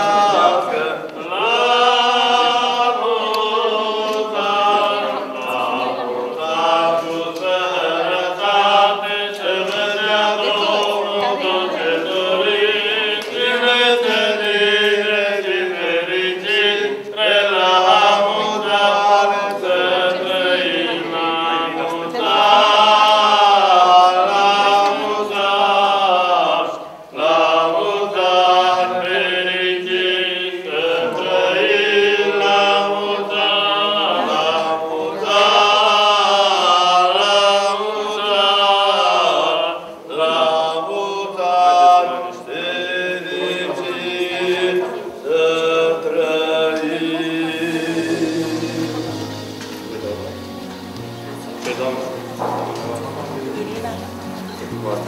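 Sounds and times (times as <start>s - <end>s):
unaccompanied liturgical chanting: 0.0s - 55.0s.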